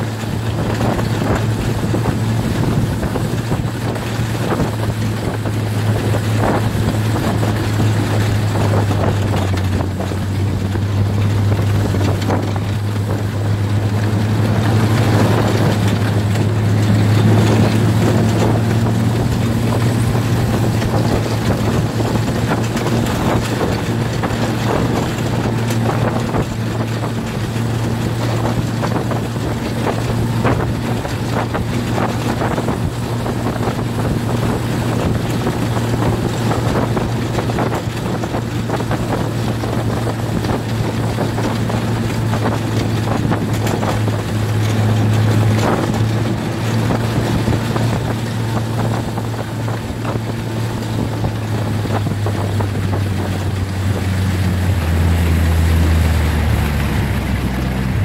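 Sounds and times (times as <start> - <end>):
snowmobile engine running: 0.0 - 58.0
track rushing: 0.0 - 58.0
wind noise: 0.0 - 58.0.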